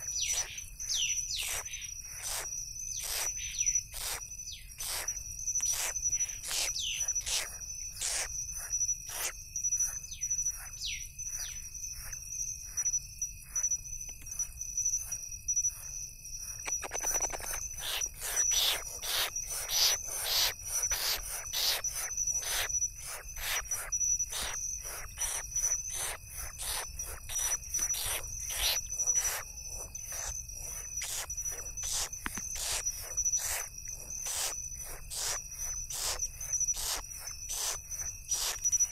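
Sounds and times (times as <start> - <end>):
crickets chirping: 0.0 - 38.9
insects trilling: 0.0 - 38.9.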